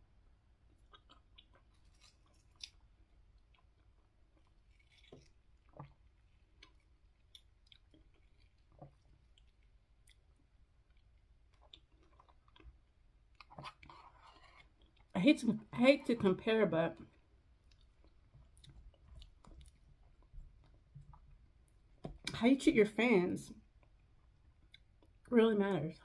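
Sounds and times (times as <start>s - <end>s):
faint chewing: 0.6s - 22.4s, 23.6s - 25.3s.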